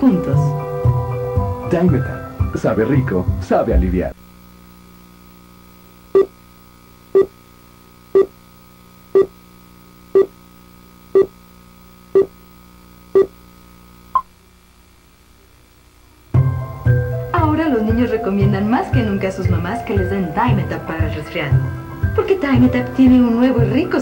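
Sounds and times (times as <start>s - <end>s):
steady low hum: 3.2s - 24.0s.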